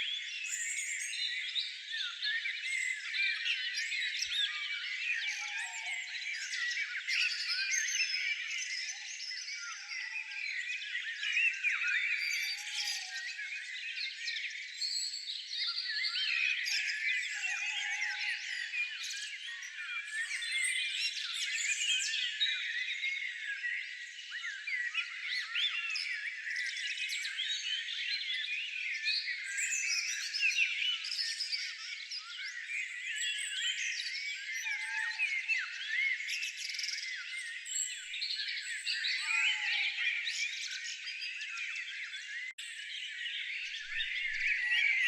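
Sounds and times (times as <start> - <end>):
songbirds chirping and twittering: 0.0 - 45.0.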